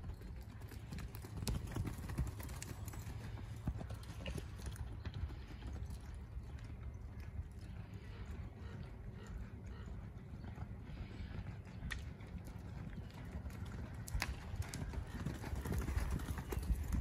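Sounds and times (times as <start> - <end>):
horse hoofbeats: 0.0 - 17.0.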